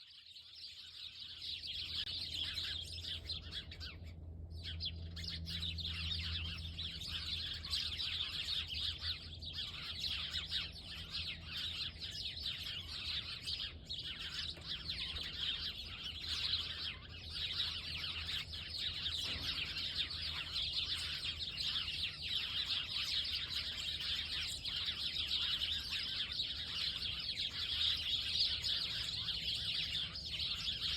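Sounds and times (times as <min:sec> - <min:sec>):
small birds chirping: 0:00.0 - 0:30.9
low steady hum: 0:00.9 - 0:30.9.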